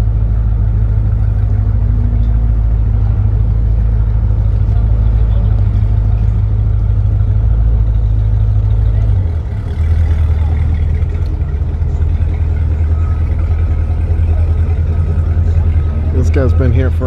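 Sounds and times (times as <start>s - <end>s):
boat engines idling: 0.0s - 17.0s.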